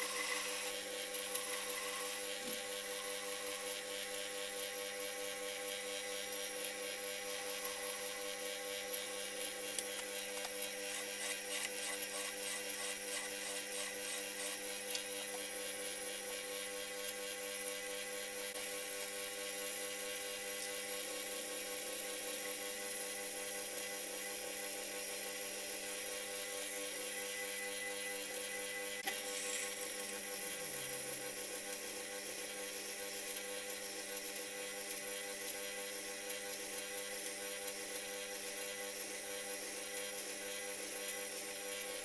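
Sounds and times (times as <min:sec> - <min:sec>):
file scraping spinning metal: 0:00.0 - 0:18.6, 0:26.1 - 0:42.0
lathe motor whirring: 0:00.0 - 0:42.0.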